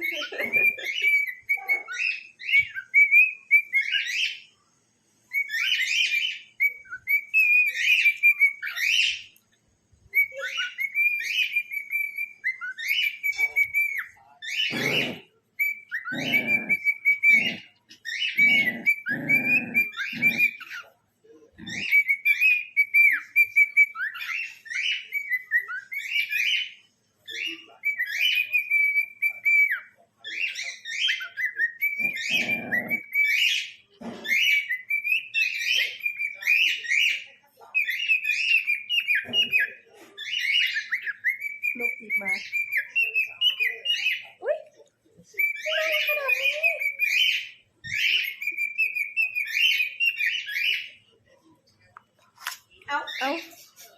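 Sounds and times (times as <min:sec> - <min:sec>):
cockatiel chirping and whistling: 0:00.0 - 0:04.5, 0:05.3 - 0:09.3, 0:10.1 - 0:20.9, 0:21.6 - 0:44.4, 0:45.3 - 0:51.0.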